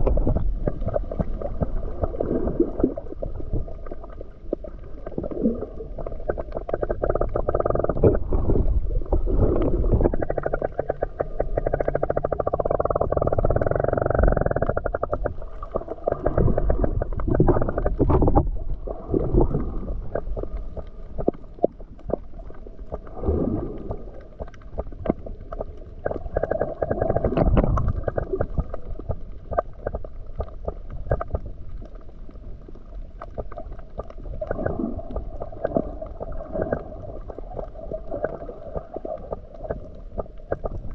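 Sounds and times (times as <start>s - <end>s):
underwater clicks and knocks: 0.0s - 5.3s, 6.0s - 23.2s, 23.8s - 32.4s, 33.1s - 40.9s
underwater water sloshing and gurgling: 0.0s - 40.9s.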